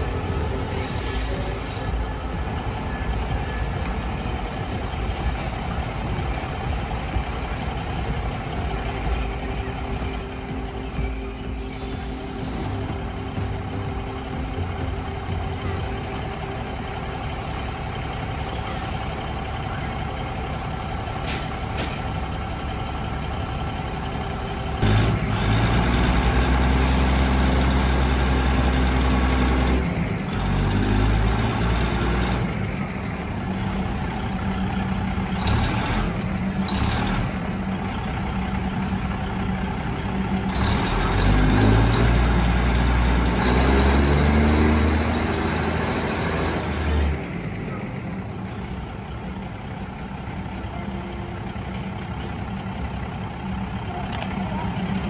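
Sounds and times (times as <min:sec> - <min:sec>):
diesel train engine droning: 0:00.0 - 0:55.0.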